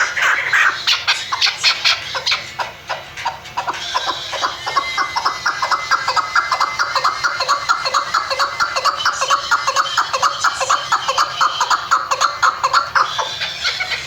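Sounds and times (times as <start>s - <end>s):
partridge calling: 0.0s - 14.0s.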